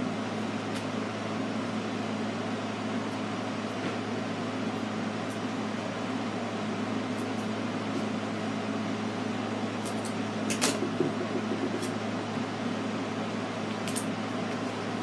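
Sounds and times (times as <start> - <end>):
low machine hum with hiss: 0.0 - 15.0.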